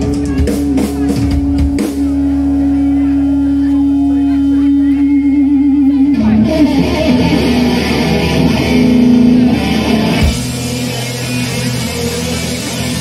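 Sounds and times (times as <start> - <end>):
lead electric guitar run: 0.0 - 13.0
rock band playing: 0.0 - 13.0.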